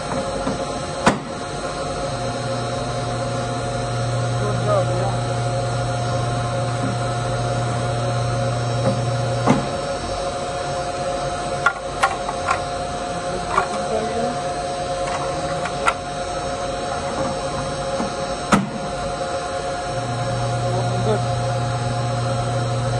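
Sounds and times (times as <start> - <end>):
juicer humming: 0.0 - 22.9.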